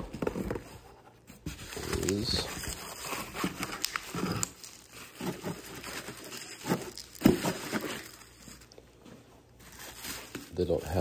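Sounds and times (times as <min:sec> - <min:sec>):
bubble wrap crinkling: 0:01.6 - 0:11.0.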